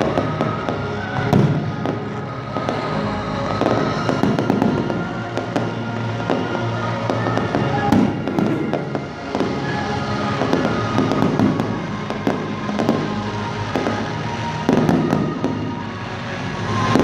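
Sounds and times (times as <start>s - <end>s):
fireworks popping and crackling: 0.0s - 17.0s
music playing: 0.0s - 17.0s.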